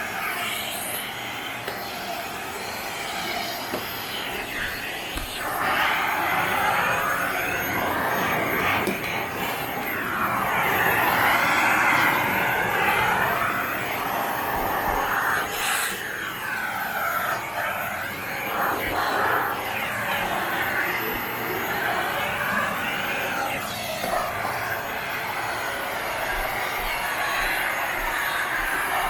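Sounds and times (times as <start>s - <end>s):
sharp hissing noise: 0.0s - 29.0s
vacuum cleaner running: 0.0s - 29.0s.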